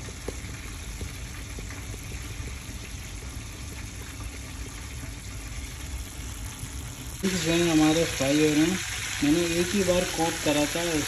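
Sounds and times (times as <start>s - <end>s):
sauce simmering with pops: 0.0s - 11.0s.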